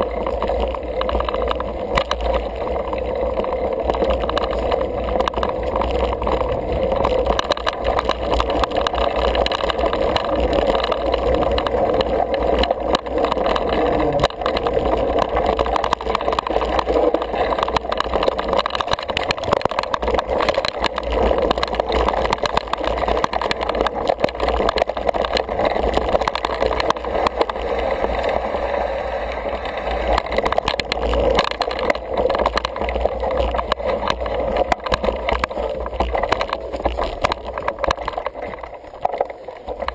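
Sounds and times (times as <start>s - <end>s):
bike tyres rumbling on dirt: 0.0s - 39.9s.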